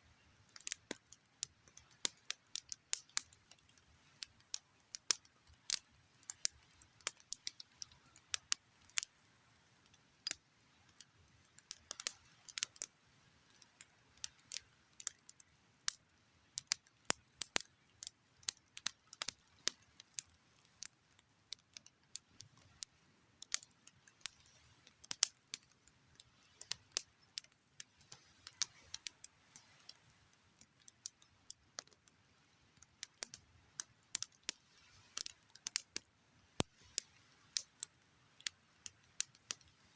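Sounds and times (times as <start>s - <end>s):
campfire crackling: 0.5s - 39.9s.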